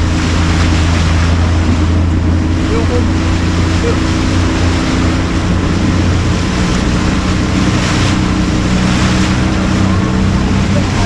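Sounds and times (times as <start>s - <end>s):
boat engine running: 0.0s - 11.0s
water rushing past hull: 0.0s - 11.0s
wind on microphone: 0.0s - 11.0s.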